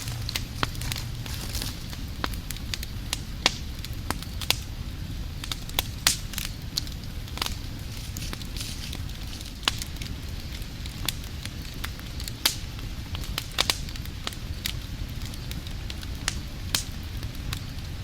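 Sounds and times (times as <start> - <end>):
fire crackling and popping: 0.0 - 18.0
wood fire rumbling: 0.0 - 18.0.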